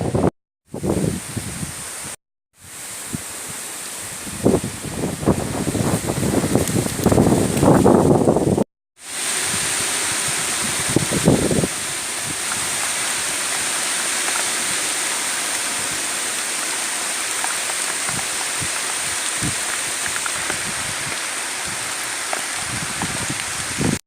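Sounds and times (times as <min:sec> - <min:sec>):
heavy rain in strong wind: 0:00.0 - 0:24.0.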